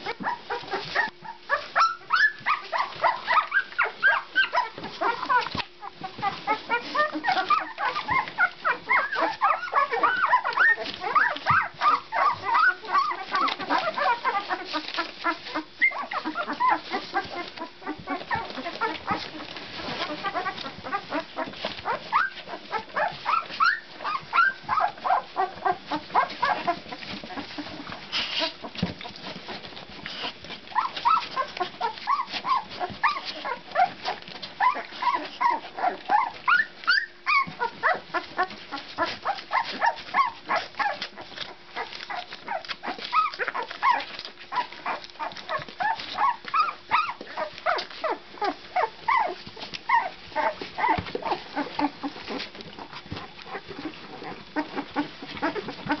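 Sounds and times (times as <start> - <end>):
puppies squeaking and whimpering: 0.0 - 56.0.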